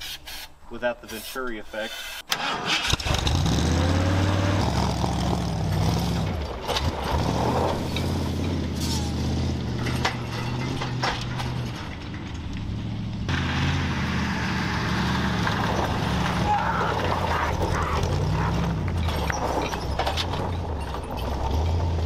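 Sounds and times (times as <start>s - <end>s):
truck engine revving and running: 2.8s - 22.0s.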